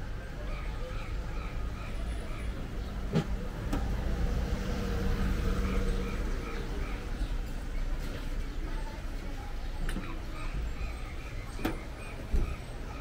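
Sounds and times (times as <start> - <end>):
vehicle engine hum: 0.0 - 10.8.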